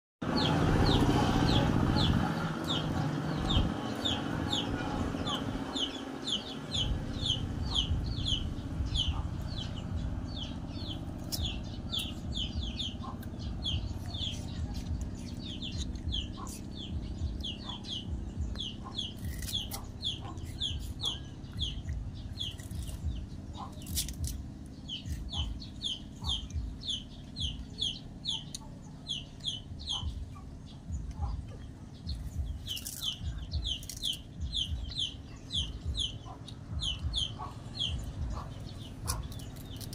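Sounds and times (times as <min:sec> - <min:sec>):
chicks peeping: 0:00.2 - 0:39.9
low rumble: 0:00.2 - 0:39.9.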